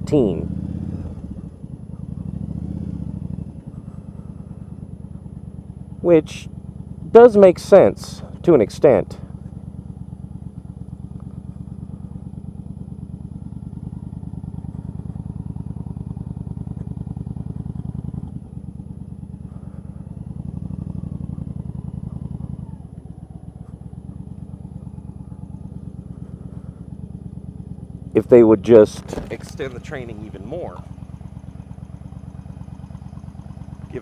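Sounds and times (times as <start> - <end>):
motorcycle engine pulsing: 0.0 - 34.0.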